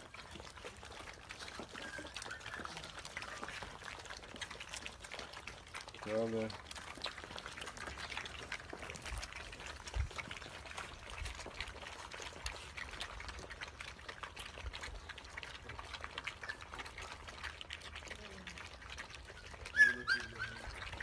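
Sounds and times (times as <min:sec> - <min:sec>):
puppies eating clicks and smacking: 0:00.0 - 0:21.0.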